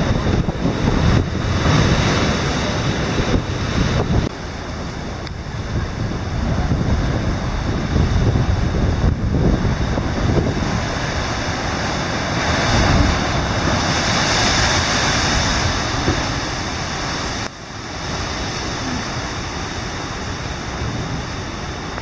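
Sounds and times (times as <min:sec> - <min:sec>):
ocean surf crashing: 0:00.0 - 0:22.0
wind buffeting microphone: 0:00.0 - 0:22.0.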